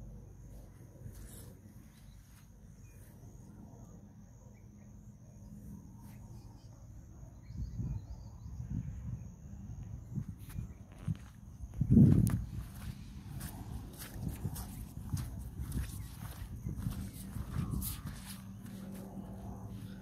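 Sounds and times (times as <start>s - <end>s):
faint low outdoor rumble: 0.0s - 20.0s.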